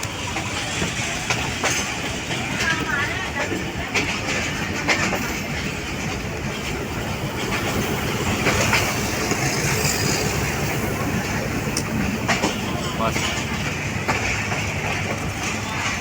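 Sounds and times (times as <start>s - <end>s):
train rumbling on rails: 0.0s - 16.0s
train wheels knocking: 0.0s - 16.0s.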